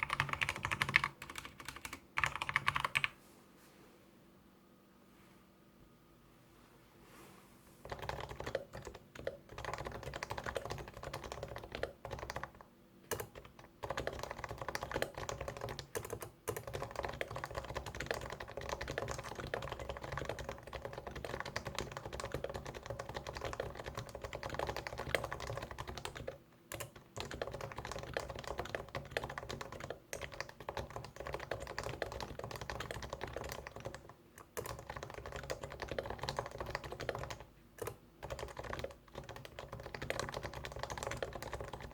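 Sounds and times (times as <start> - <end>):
fast keyboard typing: 0.0 - 3.2, 7.9 - 41.9.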